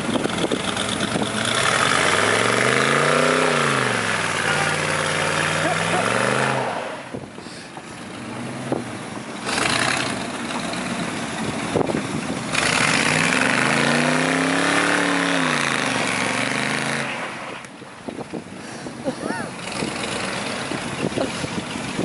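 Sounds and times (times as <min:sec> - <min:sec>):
truck engines revving: 0:00.0 - 0:22.0.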